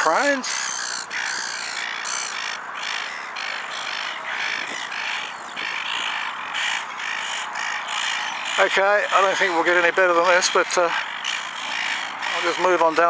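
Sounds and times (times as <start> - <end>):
water birds calling: 0.0 - 13.0.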